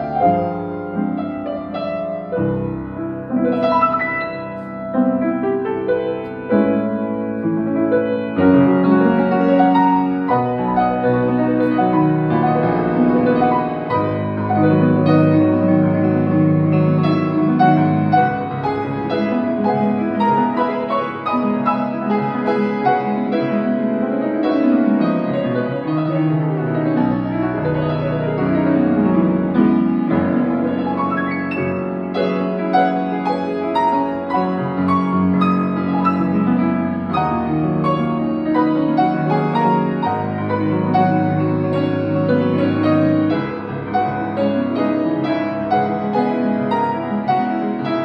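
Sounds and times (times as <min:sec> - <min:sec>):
solo piano improvisation: 0:00.0 - 0:48.0.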